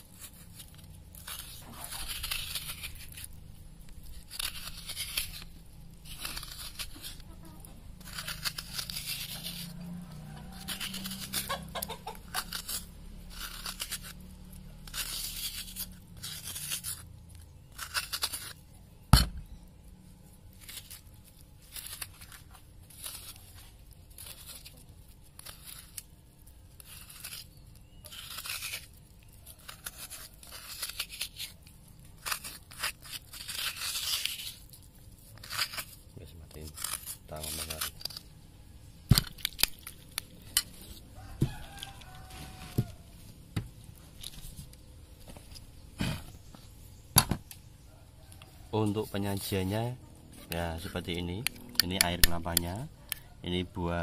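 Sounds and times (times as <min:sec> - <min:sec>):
spoon scraping coconut flesh: 0:00.0 - 0:19.2, 0:19.9 - 0:38.6, 0:39.2 - 0:43.4, 0:48.4 - 0:53.2.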